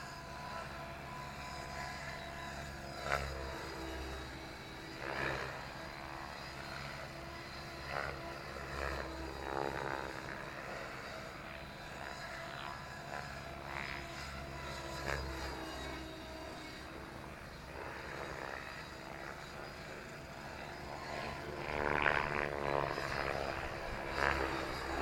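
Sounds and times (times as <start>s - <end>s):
model helicopter rotor and motor: 0.0s - 25.0s.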